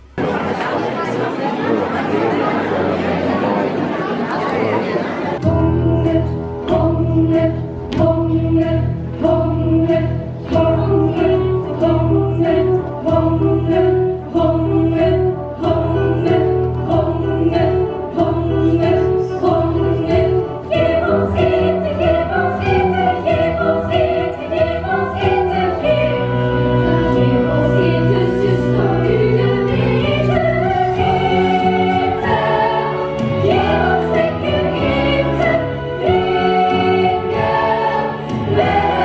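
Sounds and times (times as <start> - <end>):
choir singing: 0.2 - 39.0
instrumental accompaniment with beat: 5.4 - 39.0.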